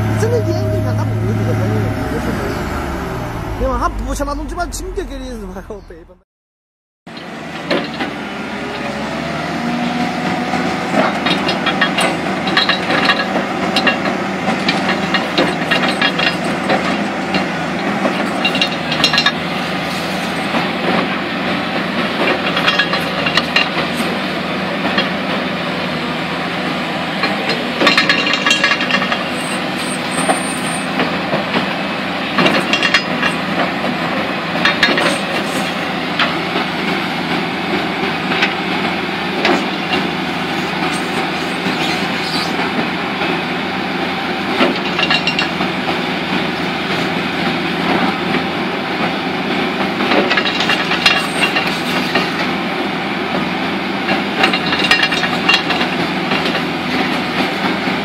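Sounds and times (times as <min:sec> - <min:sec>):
excavator engine under load: 0:00.0 - 0:06.0, 0:07.1 - 0:58.0.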